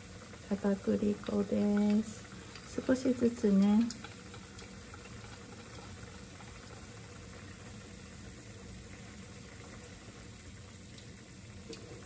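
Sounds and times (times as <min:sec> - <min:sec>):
soup simmering hiss: 0:00.0 - 0:12.0.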